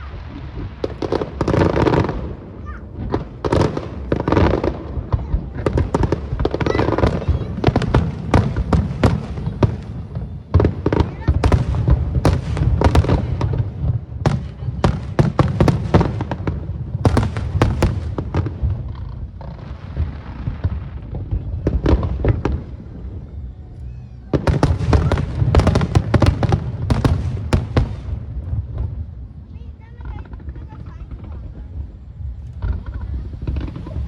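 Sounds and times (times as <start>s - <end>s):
aerial fireworks cracking: 0.0s - 23.3s, 24.3s - 34.0s
deep booming rumble: 0.0s - 34.0s.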